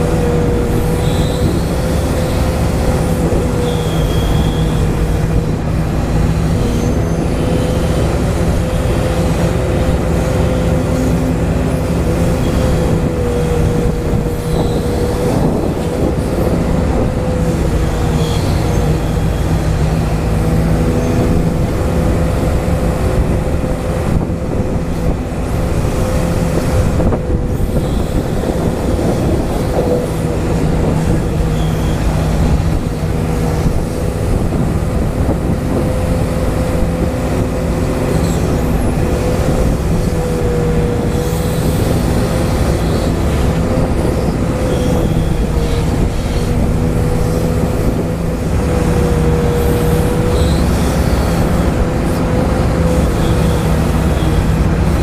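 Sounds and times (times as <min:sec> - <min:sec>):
hydraulic pump whine and rumble: 0:00.0 - 0:55.0.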